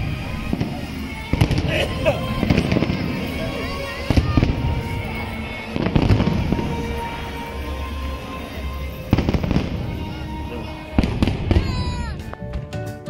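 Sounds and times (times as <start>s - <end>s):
fireworks banging: 0.0s - 12.9s
music playing: 0.0s - 13.0s.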